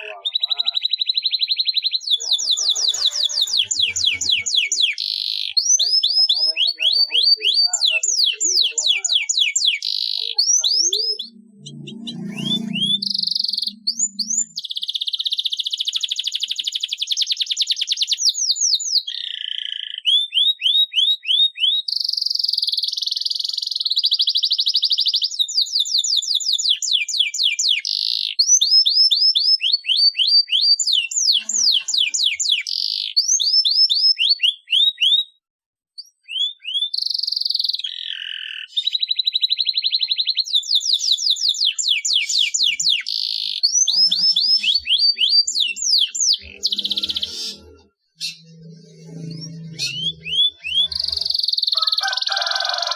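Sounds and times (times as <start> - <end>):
canary singing trills: 0.0 - 35.4, 36.0 - 52.9.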